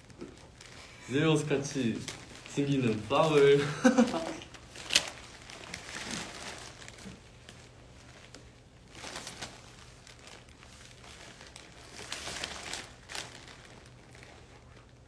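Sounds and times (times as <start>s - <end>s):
paper wrapping crinkling: 0.0s - 15.0s.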